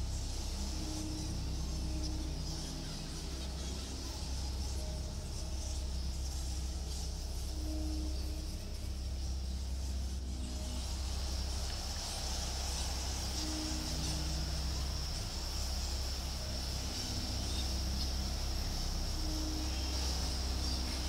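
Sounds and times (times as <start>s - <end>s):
constant low hum: 0.0s - 21.0s
high-pitched insect chorus: 0.0s - 21.0s.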